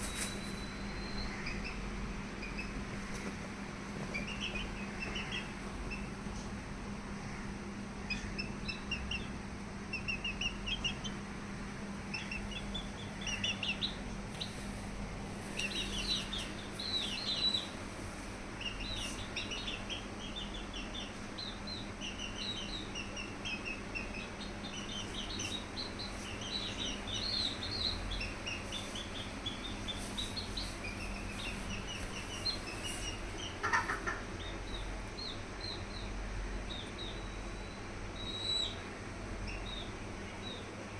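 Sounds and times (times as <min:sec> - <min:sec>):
small birds chirping: 0:00.0 - 0:06.5, 0:08.0 - 0:11.4, 0:12.0 - 0:40.9
steady low hum: 0:00.0 - 0:40.9.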